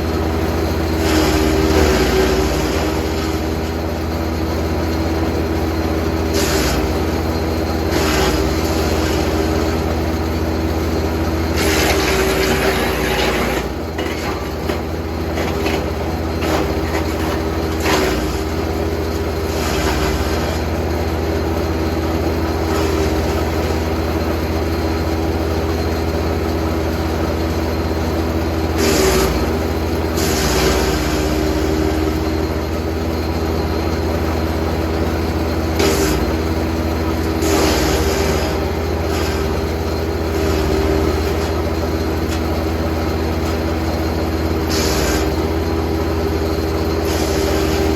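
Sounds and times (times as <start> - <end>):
wood chipper engine hum: 0.0 - 47.9.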